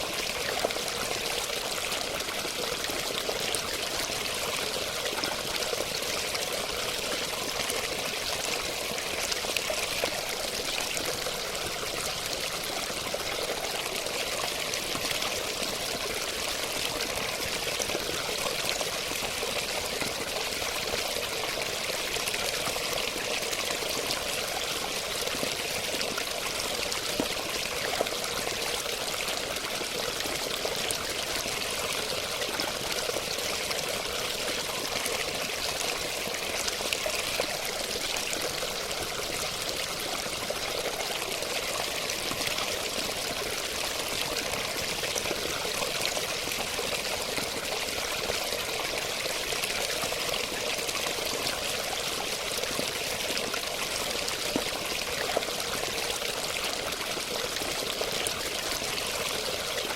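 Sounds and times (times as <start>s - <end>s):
water pouring and trickling: 0.0s - 59.9s.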